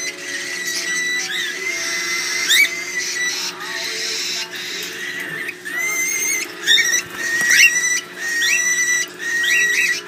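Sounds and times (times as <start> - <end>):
baby cockatiels begging calls: 0.0 - 10.0.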